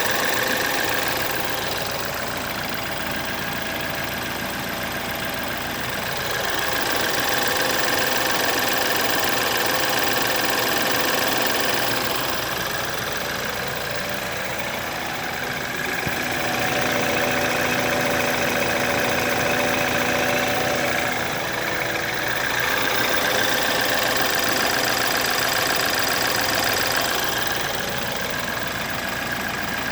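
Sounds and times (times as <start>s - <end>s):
car engine running: 0.0s - 29.9s
timing chain rattle: 0.0s - 29.9s.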